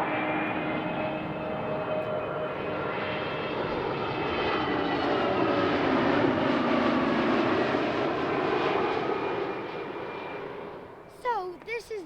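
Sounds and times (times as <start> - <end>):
jet airliner engines roaring: 0.0 - 12.0.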